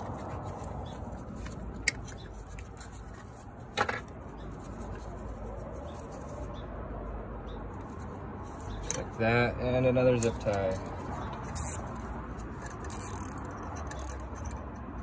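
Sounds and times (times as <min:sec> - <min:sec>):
small handling noises: 0:00.0 - 0:06.6, 0:07.6 - 0:09.4, 0:10.0 - 0:15.0.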